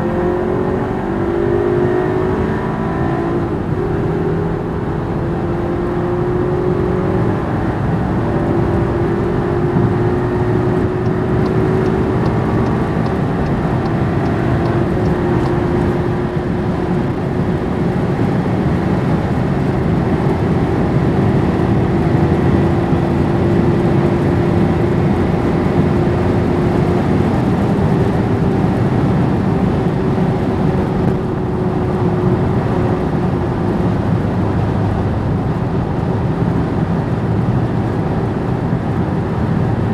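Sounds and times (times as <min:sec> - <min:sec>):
steady engine drone: 0:00.0 - 0:39.9
tyre and wind noise: 0:06.3 - 0:39.9.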